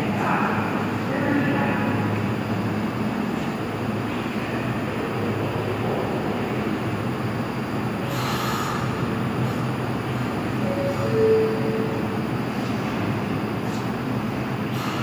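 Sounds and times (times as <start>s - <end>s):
subway train motor hum: 0.0s - 15.0s.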